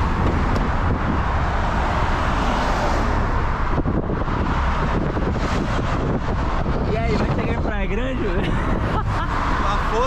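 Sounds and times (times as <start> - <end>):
car road and wind noise: 0.0 - 10.0.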